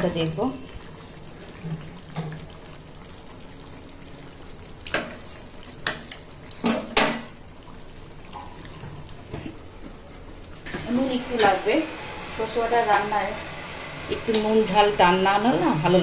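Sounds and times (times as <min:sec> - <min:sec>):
curry simmering in a pan: 0:00.0 - 0:16.0.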